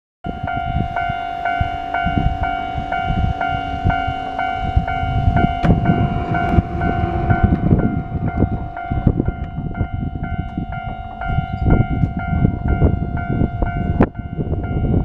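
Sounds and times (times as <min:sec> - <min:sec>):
level crossing warning bell ringing: 0:00.3 - 0:15.0
low rumble: 0:00.8 - 0:13.6.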